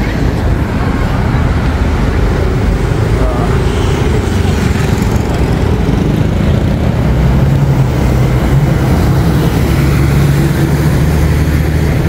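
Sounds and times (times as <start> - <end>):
bus engine droning: 0.0 - 12.0
cars and buses driving past: 0.0 - 12.0.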